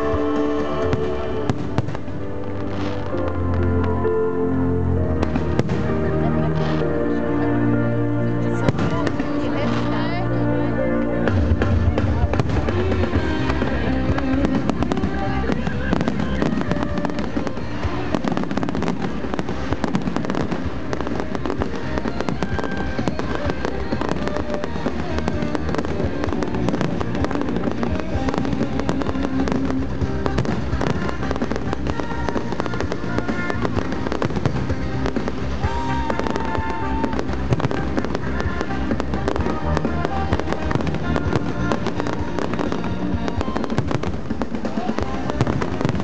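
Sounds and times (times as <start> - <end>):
fireworks crackling and popping: 0.0 - 4.1, 5.0 - 7.5, 8.4 - 46.0
music playing: 0.0 - 46.0.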